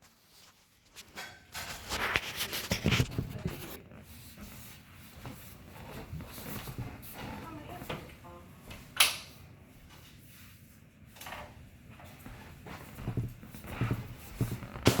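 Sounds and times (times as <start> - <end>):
movement and rustling: 0.0 - 15.0.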